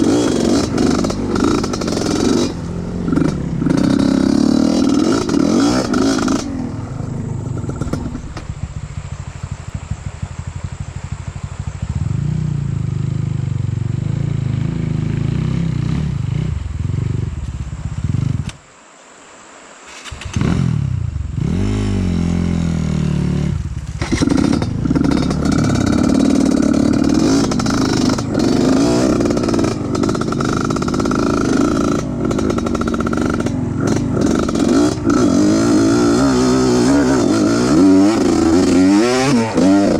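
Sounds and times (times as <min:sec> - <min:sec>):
motorcycle engine revving: 0:00.0 - 0:18.6, 0:19.9 - 0:39.9.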